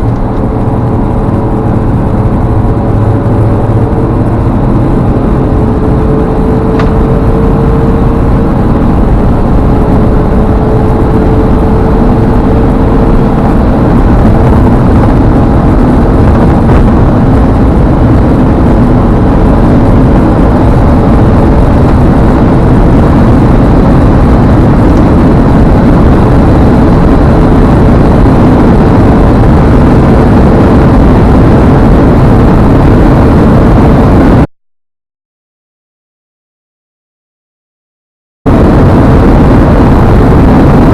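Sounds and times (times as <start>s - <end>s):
car engine running hard: 0.0s - 34.5s, 38.5s - 40.9s
wind and road noise in cabin: 0.0s - 34.5s, 38.5s - 40.9s.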